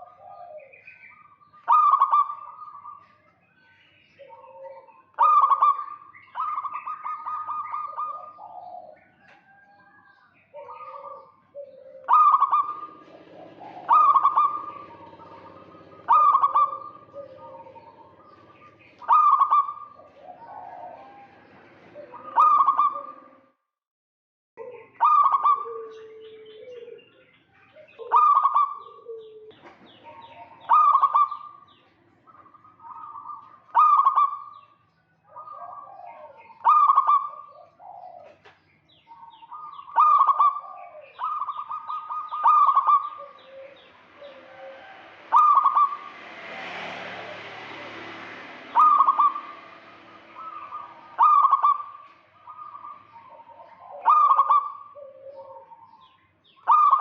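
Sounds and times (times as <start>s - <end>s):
doves cooing: 0.0s - 3.2s, 4.0s - 23.5s, 24.6s - 57.0s.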